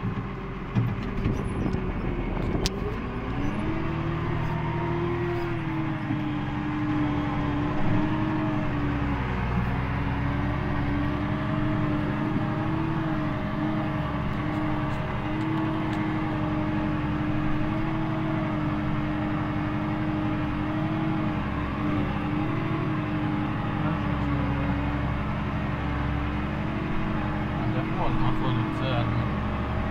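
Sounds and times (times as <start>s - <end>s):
tractor diesel engine drone: 0.0s - 29.9s.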